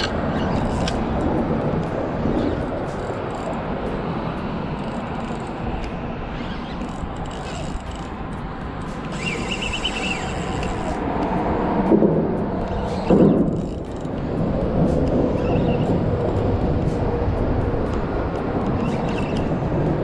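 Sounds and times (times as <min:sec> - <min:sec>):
road traffic rumble overhead: 0:00.0 - 0:20.0.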